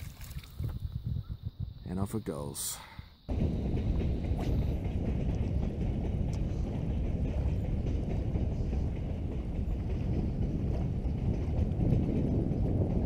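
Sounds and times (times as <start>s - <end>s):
wind buffeting microphone: 0.0s - 2.2s, 3.3s - 13.0s.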